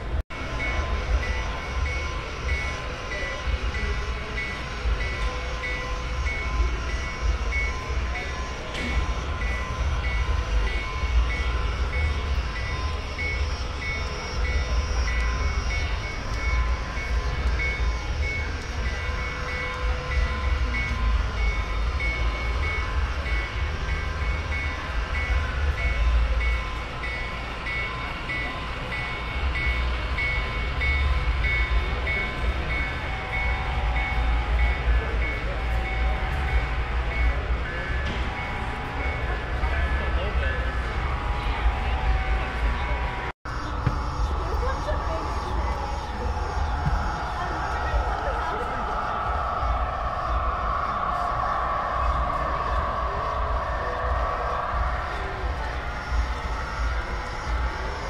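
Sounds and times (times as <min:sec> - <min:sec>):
faint steady high tones: 0:00.0 - 0:58.0
model train low rumble: 0:00.0 - 0:58.0
rapidly pulsing high tone: 0:00.0 - 0:58.0.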